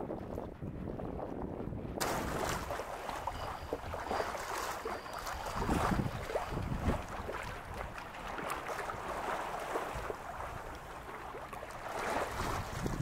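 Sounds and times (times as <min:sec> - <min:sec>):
wind rumble on microphone: 0:00.0 - 0:13.0
small waves lapping: 0:02.0 - 0:13.0.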